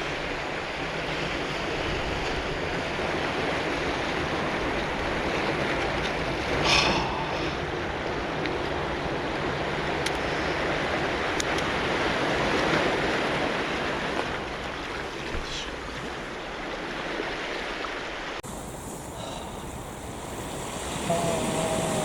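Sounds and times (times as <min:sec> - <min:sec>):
surf washing on cobble beach: 0:00.0 - 0:22.0.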